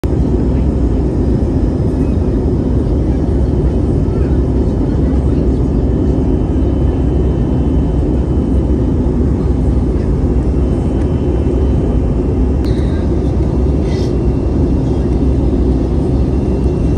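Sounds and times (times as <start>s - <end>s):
jet engine and airflow rumble: 0.0s - 16.9s.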